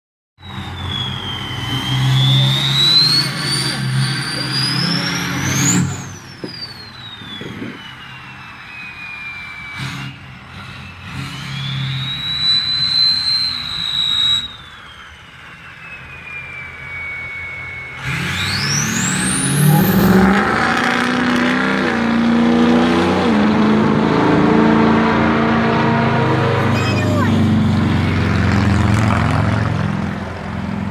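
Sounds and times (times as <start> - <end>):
truck engine revving: 0.4 - 8.5, 9.3 - 30.9
turbocharger whistling: 0.4 - 30.9.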